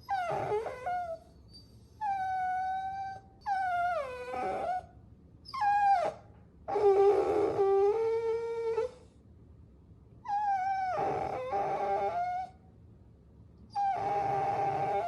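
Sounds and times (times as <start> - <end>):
puppy whining: 0.0 - 9.1, 10.2 - 12.6, 13.7 - 15.0.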